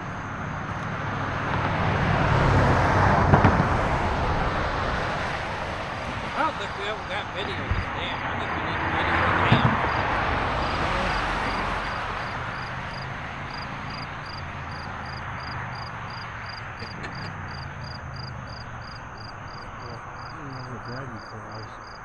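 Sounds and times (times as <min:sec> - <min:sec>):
insect chirping: 0:03.9 - 0:22.0.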